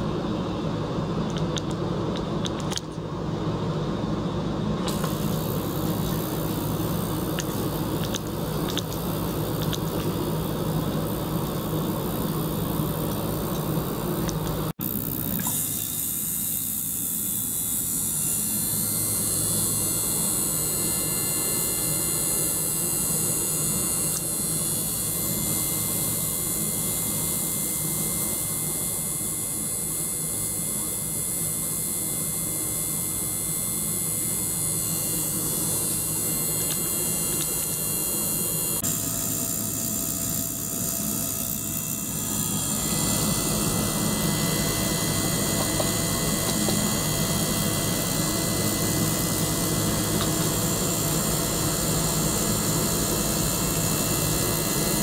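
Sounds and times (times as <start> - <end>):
pump humming with hiss: 0.0 - 55.0.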